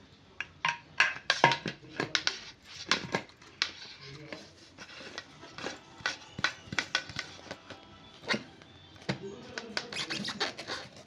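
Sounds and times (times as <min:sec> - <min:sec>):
accessories and packaging clicking: 0:02.1 - 0:11.0.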